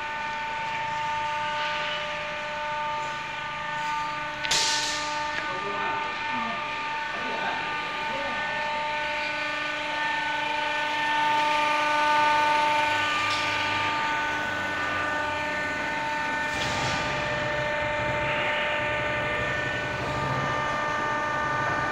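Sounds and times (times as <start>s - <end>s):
deeper hum: 0.0s - 21.9s
machine motor whine: 0.0s - 21.9s.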